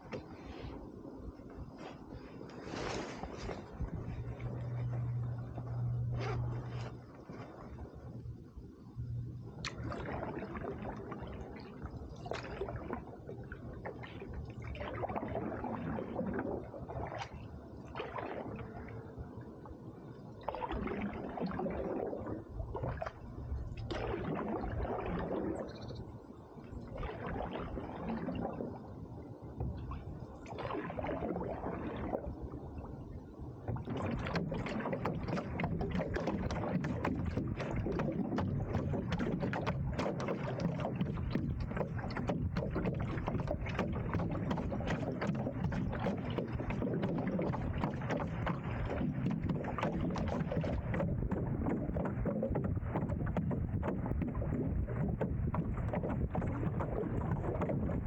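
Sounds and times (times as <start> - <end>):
paddle splashing water: 0.0 - 0.8, 1.5 - 8.2, 9.6 - 18.9, 20.4 - 25.9, 26.8 - 28.8, 29.6 - 32.3, 33.6 - 58.0
steady rushing water with crackles: 0.0 - 58.0.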